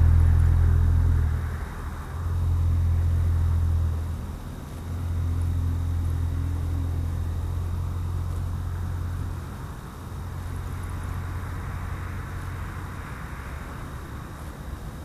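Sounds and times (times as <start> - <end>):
car exhaust drone: 0.0 - 15.0.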